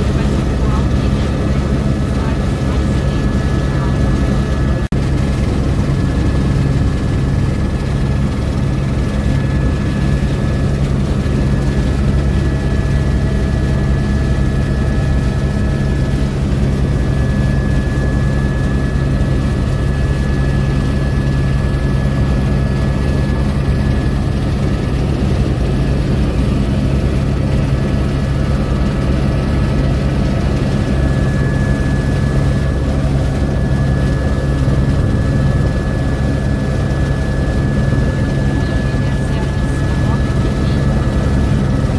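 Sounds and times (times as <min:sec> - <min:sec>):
helicopter engine and rotor drone: 0:00.0 - 0:41.9.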